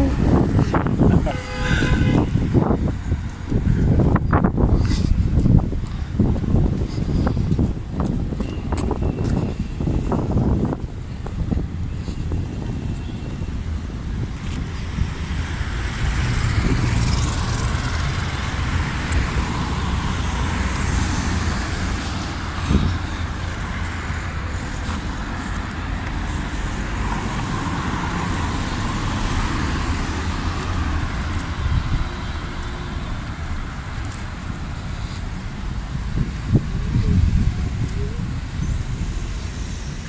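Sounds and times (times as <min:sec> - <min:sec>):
road traffic hum: 0:00.0 - 0:40.0.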